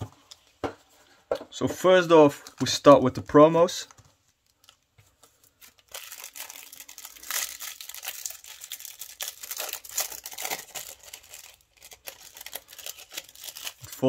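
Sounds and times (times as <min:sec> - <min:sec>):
plastic wrapper crinkling: 0:02.4 - 0:14.0.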